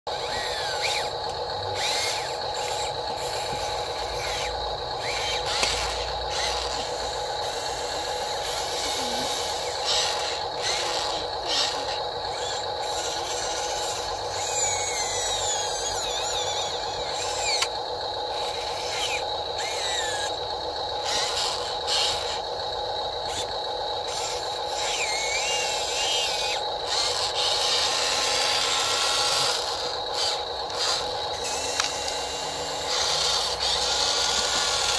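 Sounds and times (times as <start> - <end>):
electric motors whining: 0.1 - 34.9.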